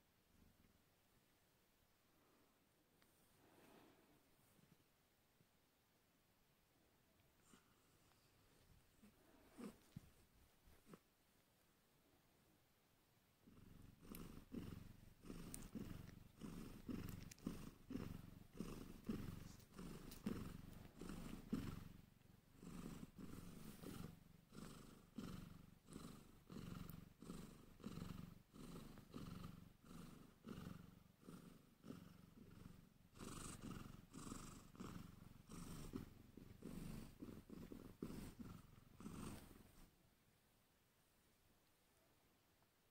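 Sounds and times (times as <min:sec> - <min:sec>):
cat purring: 0:00.0 - 0:12.6, 0:13.3 - 0:42.9.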